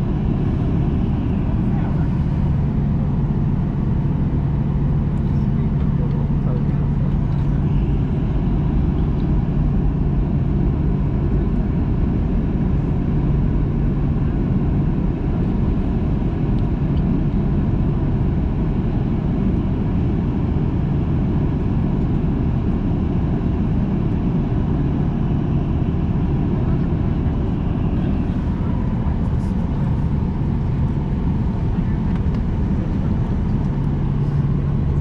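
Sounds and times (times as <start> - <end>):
jet engines idling: 0.0 - 35.0.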